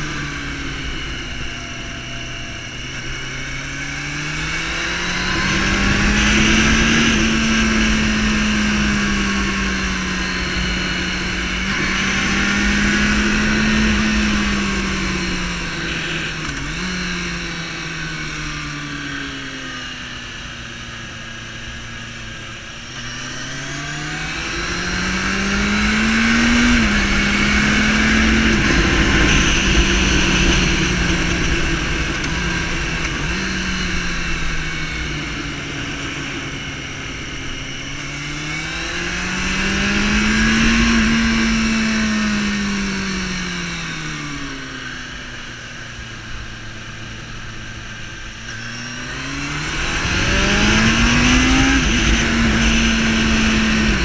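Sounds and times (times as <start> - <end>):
wind rushing over microphone: 0.0 - 18.6, 24.0 - 45.0, 47.6 - 54.0
motorcycle engine running: 0.0 - 54.0.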